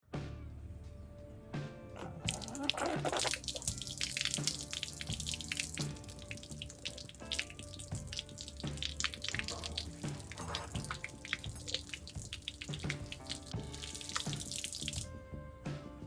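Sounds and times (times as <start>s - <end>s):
background music: 0.0s - 16.0s
water dripping from leaking pipe: 2.0s - 15.1s.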